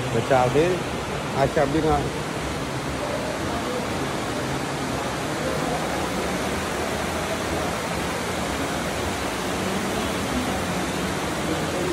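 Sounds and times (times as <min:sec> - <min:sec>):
stream water rushing: 0:00.0 - 0:11.9.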